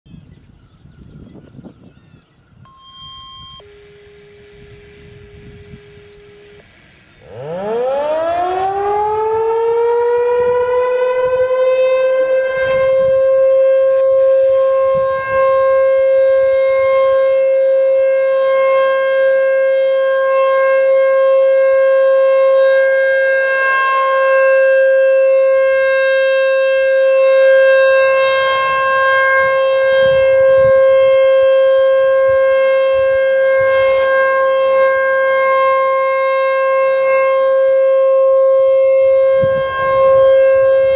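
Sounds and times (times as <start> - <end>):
mechanical siren wailing: 0.8 - 40.9.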